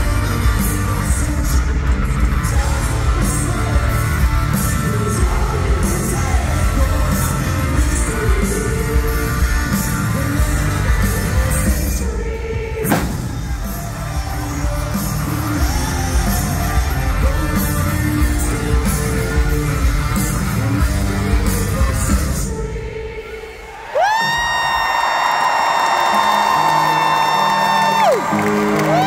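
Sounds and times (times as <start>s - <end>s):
live rock band playing: 0.0s - 22.8s, 26.0s - 29.0s
lead singer: 0.0s - 29.0s.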